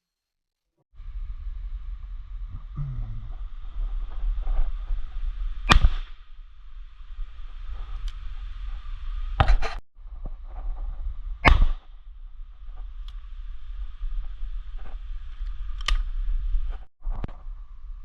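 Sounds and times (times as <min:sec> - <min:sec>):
steady low rumble: 0:01.0 - 0:18.0.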